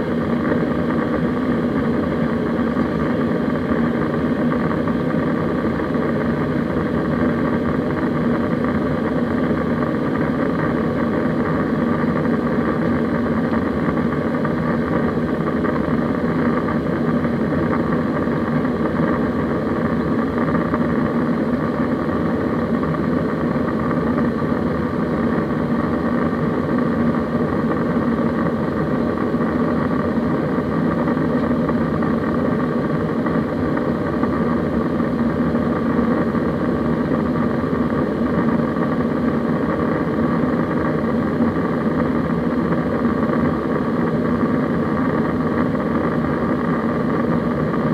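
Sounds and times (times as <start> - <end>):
airplane cabin engine drone: 0.0 - 47.9.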